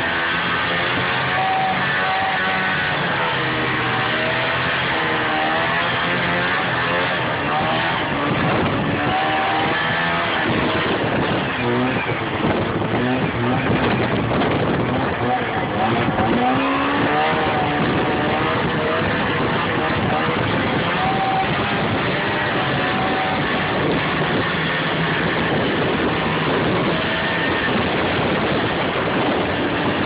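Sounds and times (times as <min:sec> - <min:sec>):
snowmobile engine running: 0:00.0 - 0:30.0
steady noisy rush: 0:00.0 - 0:30.0.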